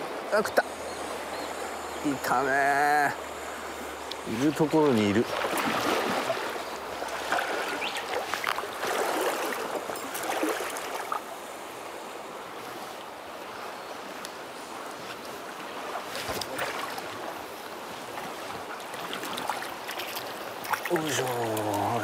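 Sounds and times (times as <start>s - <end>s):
mountain stream flowing: 0.0s - 22.0s.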